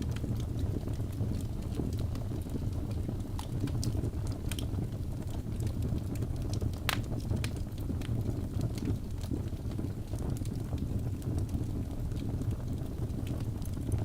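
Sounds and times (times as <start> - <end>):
logs crackling and popping: 0.0 - 14.0
low rumble of flame: 0.0 - 14.0.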